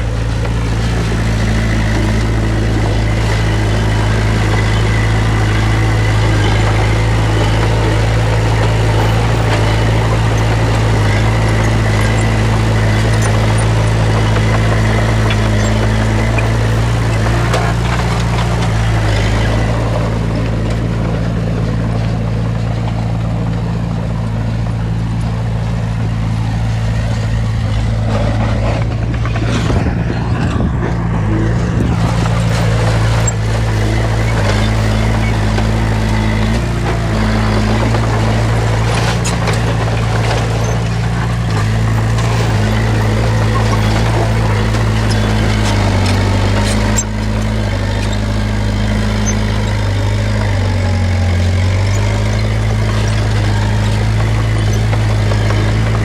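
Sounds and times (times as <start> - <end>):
heavy diesel engine running: 0.0 - 56.0
machinery clatter and rattle: 0.0 - 56.0.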